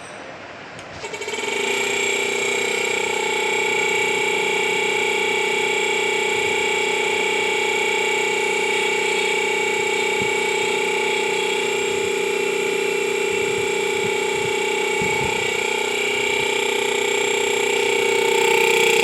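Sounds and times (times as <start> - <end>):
air conditioner compressor hum: 0.3 - 19.0
high tonal whine: 0.8 - 19.0.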